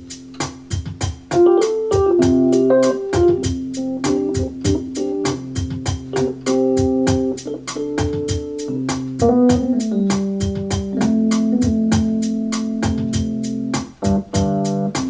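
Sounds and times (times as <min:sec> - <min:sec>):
organ-like keyboard chords: 0:00.0 - 0:15.0
quick steady beat: 0:00.0 - 0:15.0.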